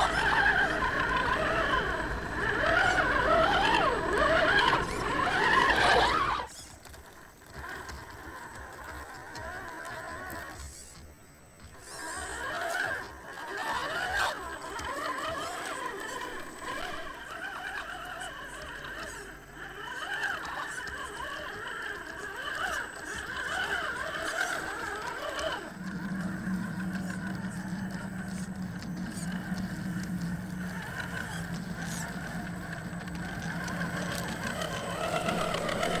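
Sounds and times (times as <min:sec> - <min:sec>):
electric motor and gears whining: 0:00.0 - 0:36.0.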